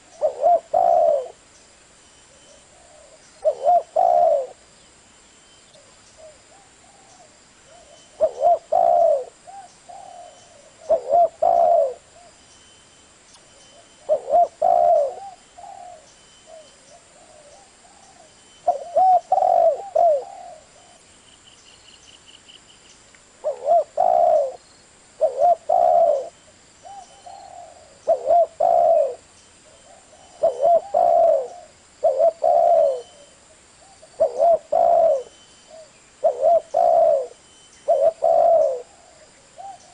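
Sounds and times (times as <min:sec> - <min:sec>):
dove cooing: 0:00.0 - 0:01.4, 0:02.3 - 0:04.6, 0:05.8 - 0:12.4, 0:13.7 - 0:21.1, 0:23.4 - 0:24.6, 0:25.2 - 0:39.9.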